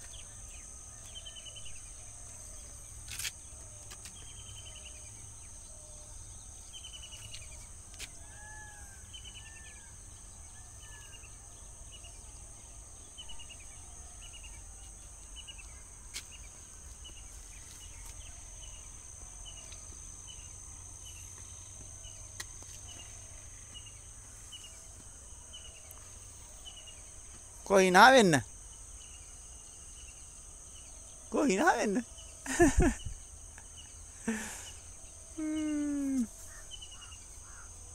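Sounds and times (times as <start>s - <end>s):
insect drone: 0.0s - 37.9s.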